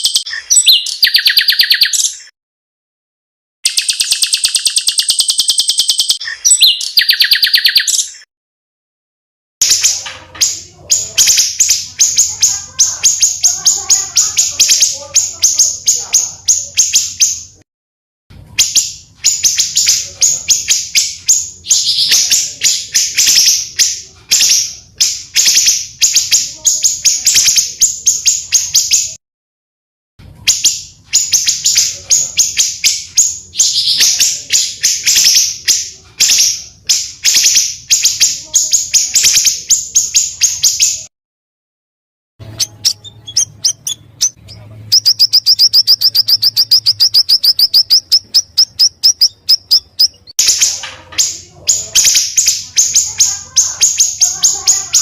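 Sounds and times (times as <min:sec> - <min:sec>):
songbirds chirping and trilling: 0:00.0 - 0:02.3, 0:03.6 - 0:08.3, 0:09.6 - 0:17.6, 0:18.4 - 0:29.2, 0:30.2 - 0:41.1, 0:42.4 - 0:55.0.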